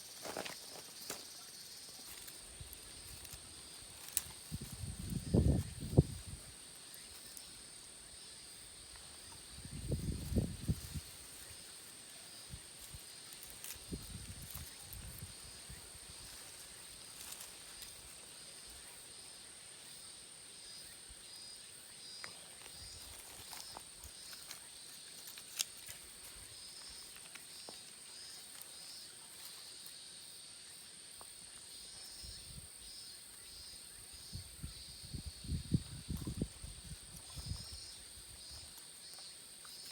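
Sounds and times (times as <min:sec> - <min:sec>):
high even insect buzz: 0:00.0 - 0:39.9.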